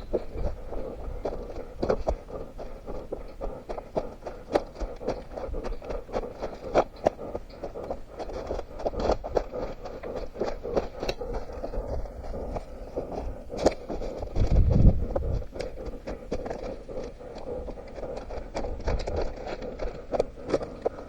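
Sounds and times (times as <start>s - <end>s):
running footsteps on leaves: 0.0s - 21.0s.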